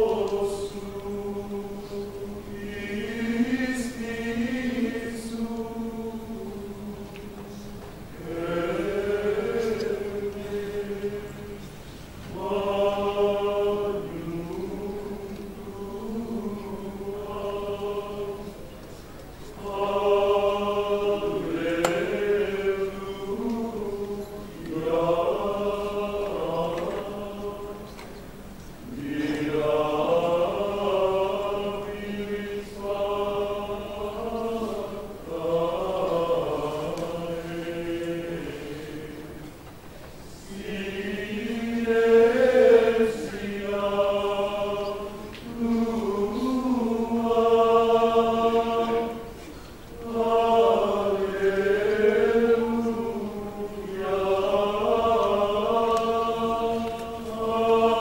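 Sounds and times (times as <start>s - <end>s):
men's choir chanting in unison: 0.0s - 18.8s, 19.4s - 28.1s, 28.8s - 39.6s, 40.3s - 58.0s.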